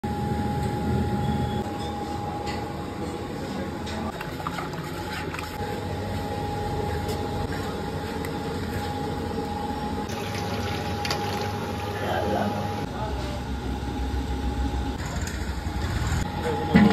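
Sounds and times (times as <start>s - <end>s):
machinery rumbling with thin whine: 0.0s - 16.9s.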